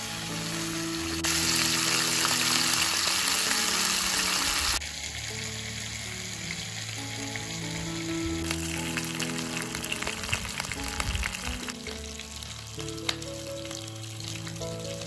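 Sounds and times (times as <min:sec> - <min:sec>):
food sizzling in hot oil: 0:00.0 - 0:15.0
soft background music: 0:00.0 - 0:15.0.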